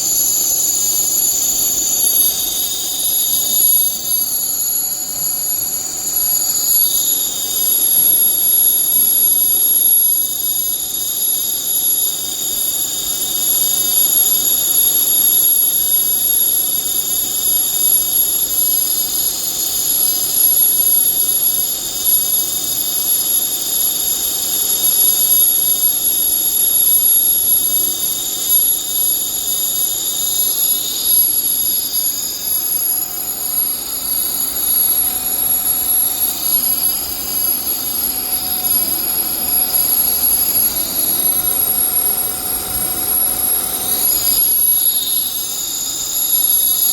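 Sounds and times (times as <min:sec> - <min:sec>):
machine high-pitched whine: 0:00.0 - 0:46.9.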